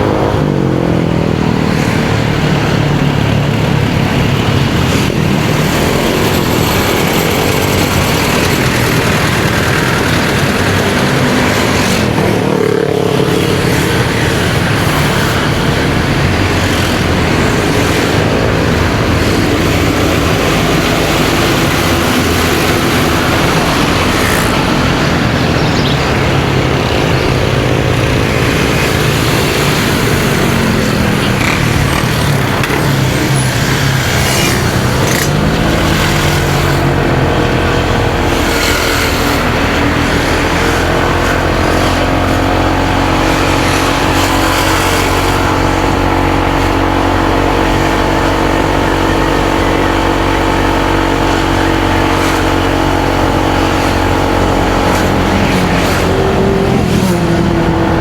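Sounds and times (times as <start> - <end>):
motorcycle engine running: 0.0 - 58.0
road noise: 0.0 - 58.0
wind noise: 0.0 - 58.0.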